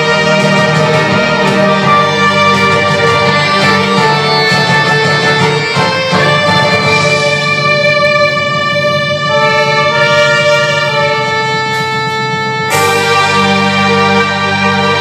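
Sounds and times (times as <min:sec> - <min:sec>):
karaoke backing music: 0:00.0 - 0:15.0.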